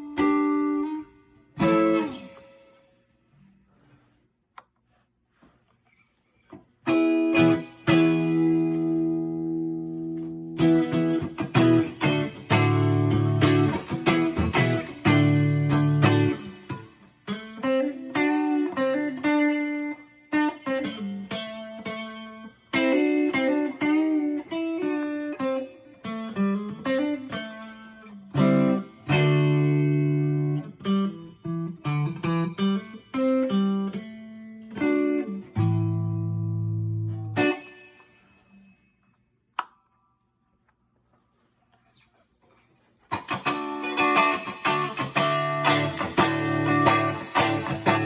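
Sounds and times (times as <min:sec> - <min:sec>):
electric guitar playing: 0:00.0 - 0:02.8, 0:06.8 - 0:38.7, 0:43.1 - 0:48.0.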